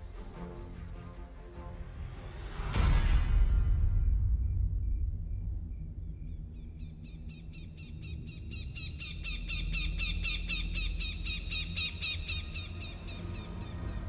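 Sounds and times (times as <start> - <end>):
low rumbling drone: 1.6 - 14.0.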